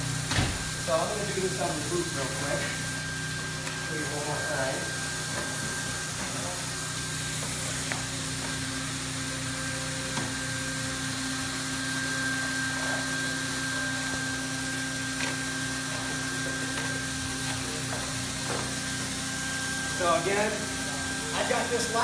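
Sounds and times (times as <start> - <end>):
high whine: 0.0 - 22.0
hot-air welder blower rush: 0.0 - 22.0.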